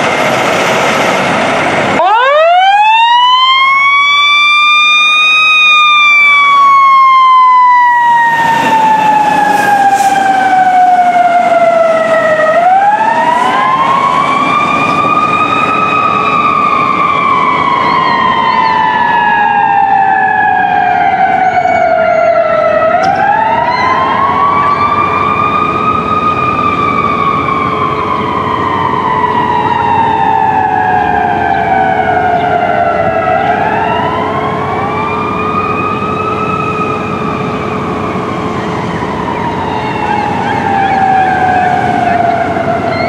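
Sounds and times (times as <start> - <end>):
fire truck siren wailing: 0.0 - 43.0.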